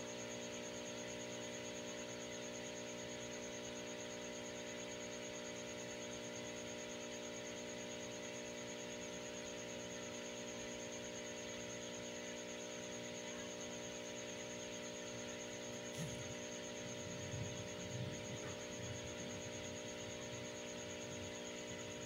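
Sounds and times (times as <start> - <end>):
aquarium equipment hum: 0.0 - 22.0.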